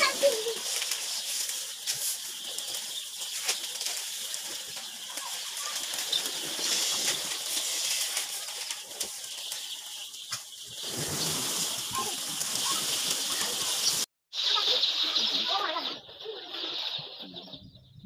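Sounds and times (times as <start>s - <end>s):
hens rustling and flapping wings: 0.0s - 17.6s
hens chirping faintly: 0.0s - 18.0s.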